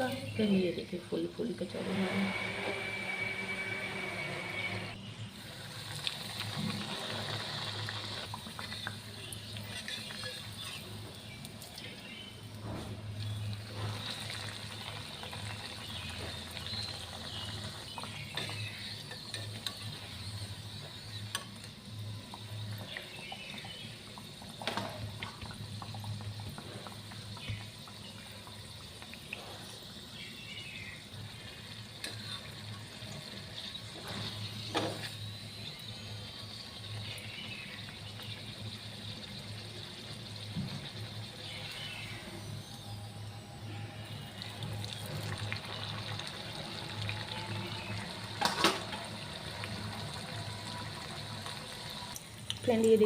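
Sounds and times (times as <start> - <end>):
food deep-frying in oil: 3.2 - 53.0.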